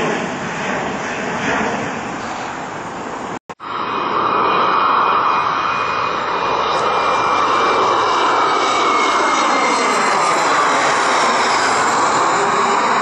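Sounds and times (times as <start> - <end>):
jet roar with fan whine: 0.0 - 13.0.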